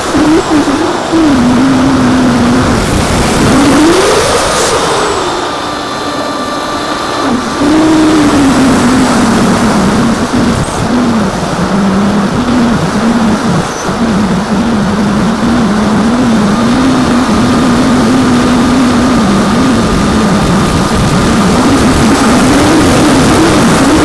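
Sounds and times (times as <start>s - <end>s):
electric motor and propeller whine: 0.0s - 24.0s
wind rushing: 0.0s - 24.0s.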